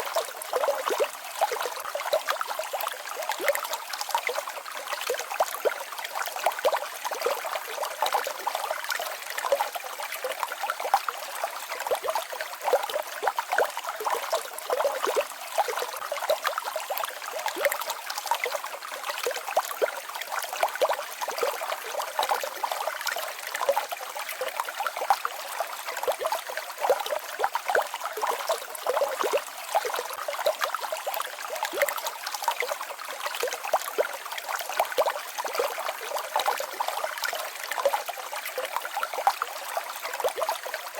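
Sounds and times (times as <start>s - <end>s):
water babbling over rocks: 0.0s - 40.9s.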